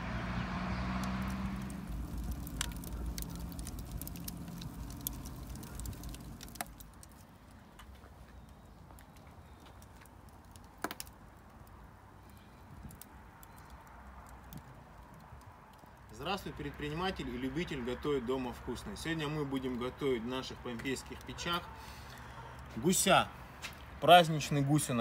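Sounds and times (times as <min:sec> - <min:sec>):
wood fire crackling: 0:00.1 - 0:24.9.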